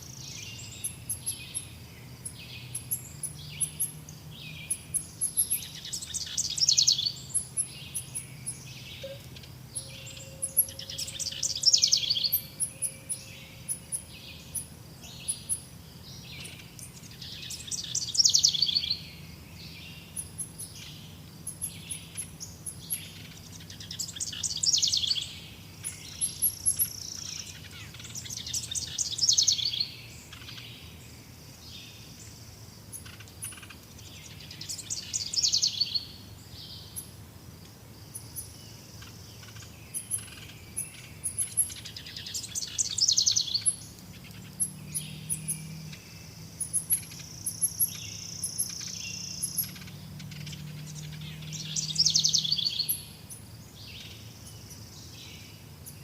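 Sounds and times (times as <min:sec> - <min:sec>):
bird trilled song: 0:00.0 - 0:31.0, 0:32.9 - 0:37.1, 0:38.1 - 0:56.0.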